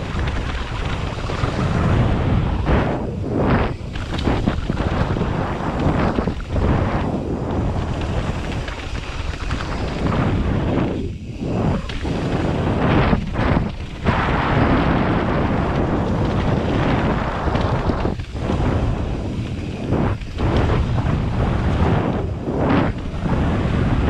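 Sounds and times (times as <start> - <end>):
bike tyres rattling on gravel: 0.0 - 24.0
wind buffeting microphone: 0.0 - 24.0.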